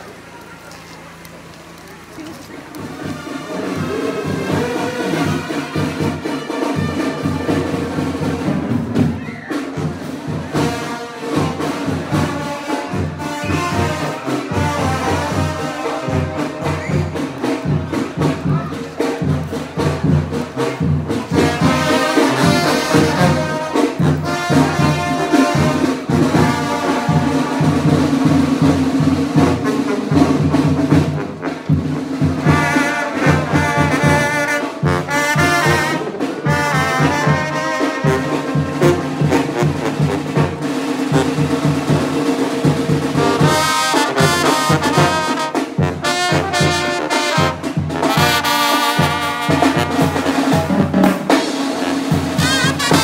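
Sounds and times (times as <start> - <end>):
brass band playing: 2.2 - 53.0
steady drum beat: 2.2 - 53.0
trumpets and trombones melody: 2.8 - 53.0.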